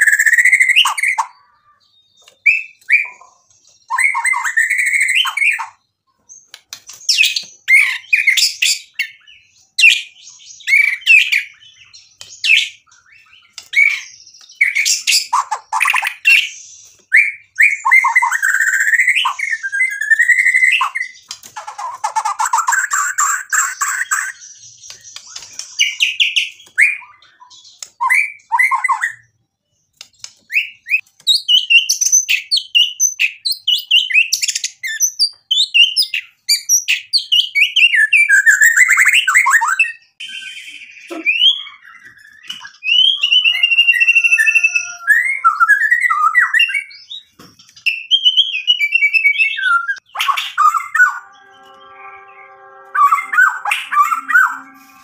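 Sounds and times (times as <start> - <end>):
bird singing whistles and trills: 0.0 - 5.8, 6.4 - 29.3, 30.4 - 55.0.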